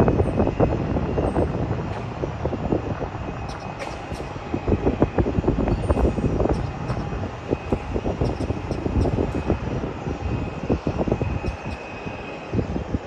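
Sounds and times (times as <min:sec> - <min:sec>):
jet engines whining: 0:00.0 - 0:13.0
wind buffeting microphone: 0:00.0 - 0:13.0.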